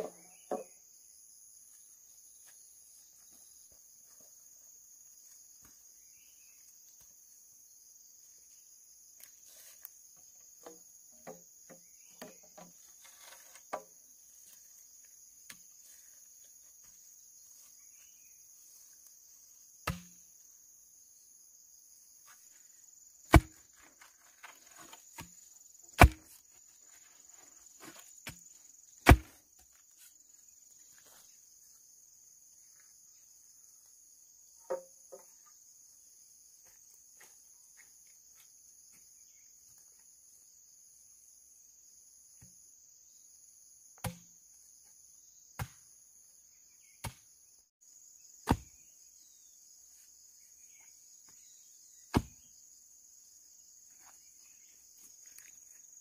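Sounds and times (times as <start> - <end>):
pulsing insect chirp: 0.0 - 12.8, 13.7 - 56.0
insects droning: 0.0 - 56.0.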